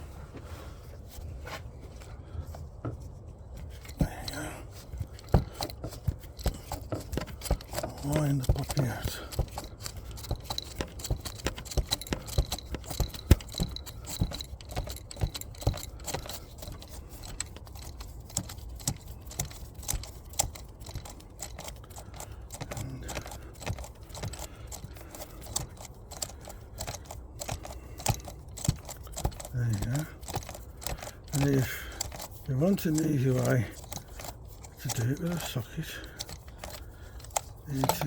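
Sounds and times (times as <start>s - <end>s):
metallic clicks of tools: 3.6s - 38.0s.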